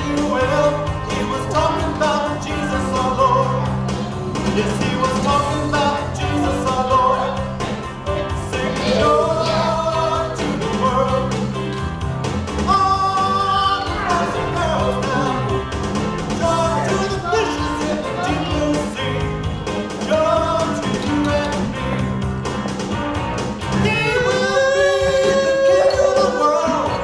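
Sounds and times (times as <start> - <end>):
drums and bass beat: 0.0 - 27.0
song with singing voice: 0.0 - 27.0.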